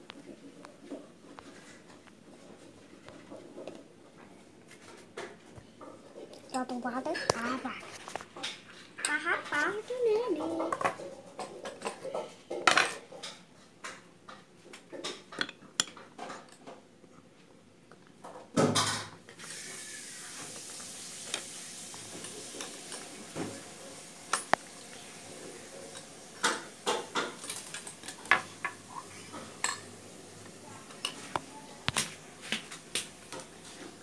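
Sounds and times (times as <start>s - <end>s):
faint machine hum: 0.0s - 34.0s.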